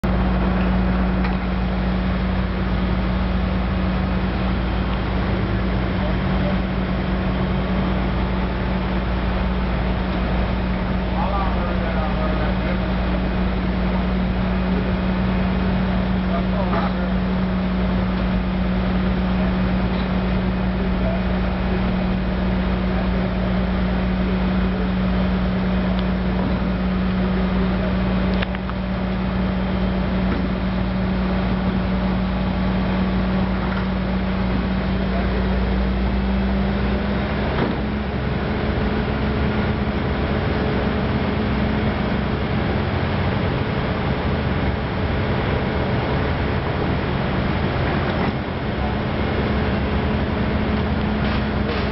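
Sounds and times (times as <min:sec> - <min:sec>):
large engine running under load: 0:00.0 - 0:51.9.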